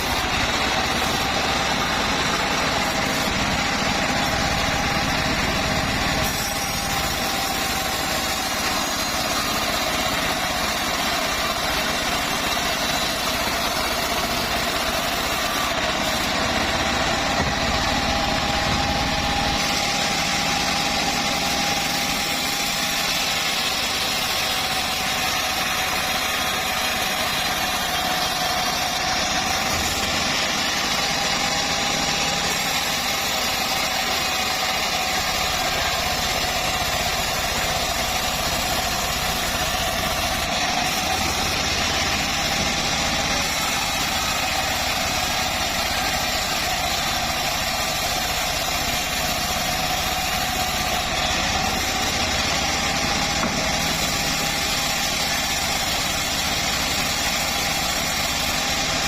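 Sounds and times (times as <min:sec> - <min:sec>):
bandsaw mill running: 0:00.0 - 0:59.0.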